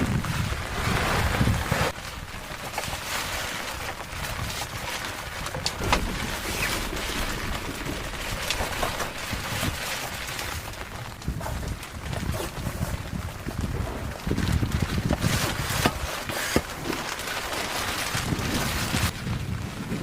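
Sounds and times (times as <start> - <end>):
steady rain: 0.0 - 20.0
wind: 0.0 - 20.0.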